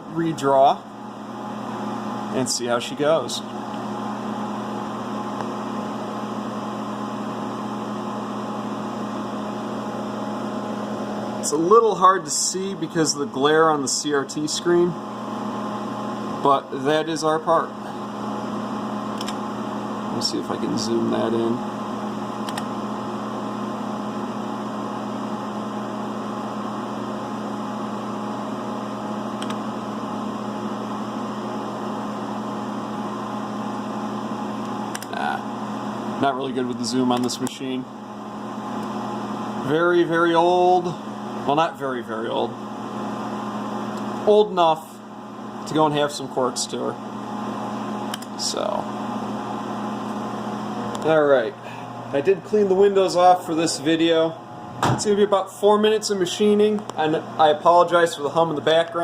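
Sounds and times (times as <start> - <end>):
electrical hum with hiss: 0.0 - 59.0.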